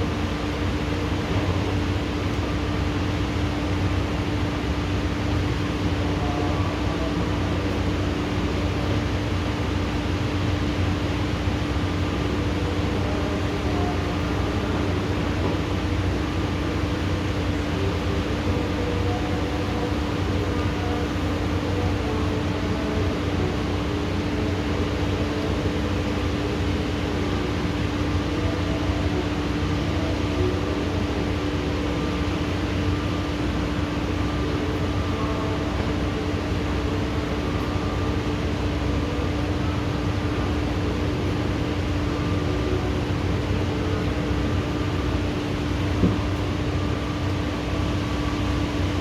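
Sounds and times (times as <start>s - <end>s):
steady machine hum: 0.0s - 49.0s.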